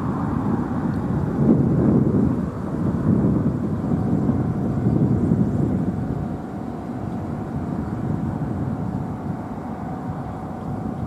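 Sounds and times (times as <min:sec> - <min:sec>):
faint steady tone: 0:00.0 - 0:11.0
vehicle rumble: 0:00.0 - 0:11.0.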